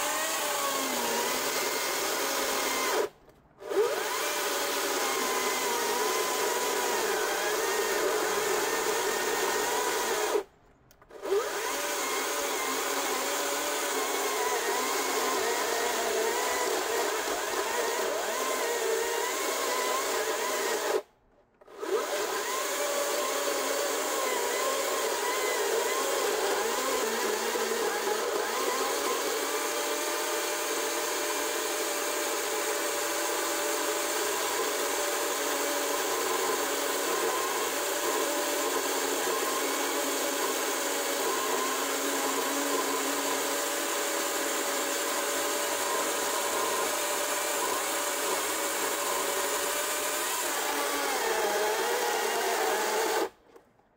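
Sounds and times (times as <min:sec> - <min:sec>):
chainsaw cutting through log: 0:00.0 - 0:53.8.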